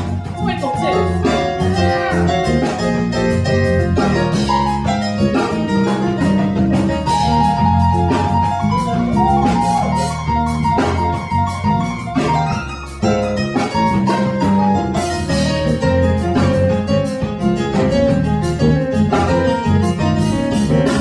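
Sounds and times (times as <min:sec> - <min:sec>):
electronic keyboard: 0:00.0 - 0:21.0
percussion steady beat: 0:00.0 - 0:21.0.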